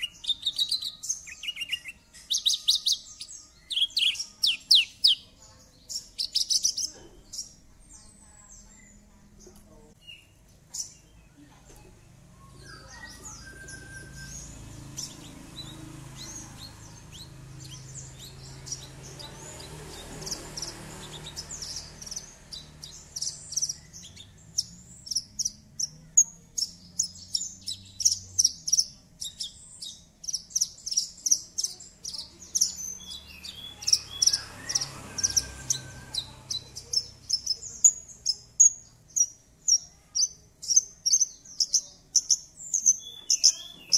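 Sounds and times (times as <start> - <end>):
bird chirping and trilling: 0.0 - 43.9.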